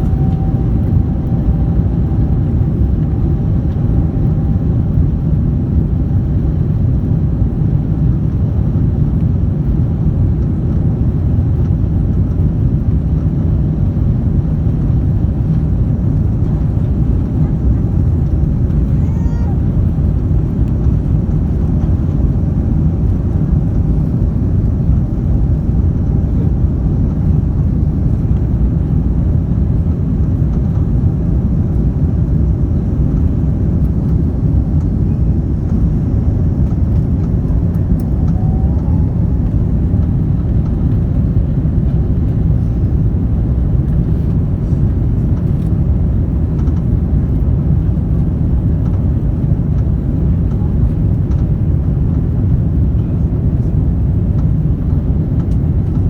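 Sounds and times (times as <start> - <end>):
airliner engine rumble: 0.0 - 56.0.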